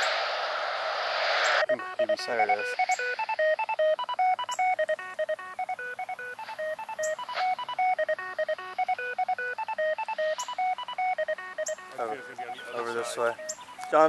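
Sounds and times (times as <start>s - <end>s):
fast electronic beeps: 1.2s - 14.0s.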